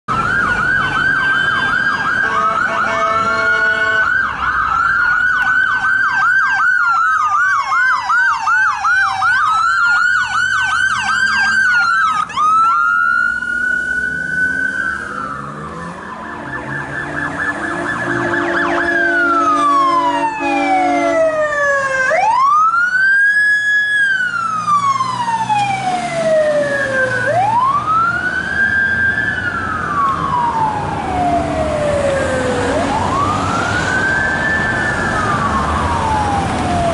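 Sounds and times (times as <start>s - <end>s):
electronic sirens yelping and wailing: 0.1s - 36.9s.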